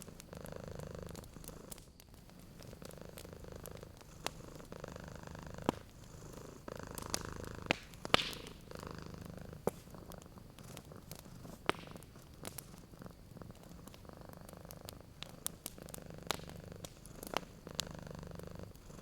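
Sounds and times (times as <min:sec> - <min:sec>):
cat purring: 0:00.0 - 0:19.0
wood fire popping: 0:00.0 - 0:19.0.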